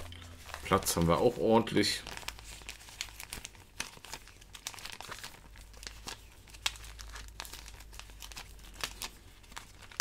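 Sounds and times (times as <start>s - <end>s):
plastic pages crinkling: 0.0s - 10.0s.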